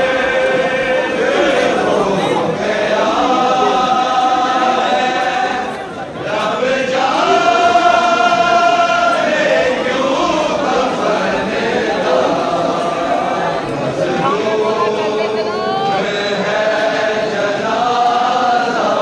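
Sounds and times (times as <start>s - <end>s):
crowd of men chanting: 0.0s - 19.0s.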